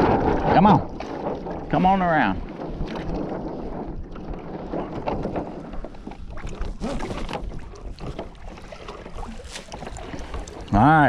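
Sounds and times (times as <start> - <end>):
water splashing along hull: 0.0 - 11.0
wind buffeting microphone: 0.0 - 11.0.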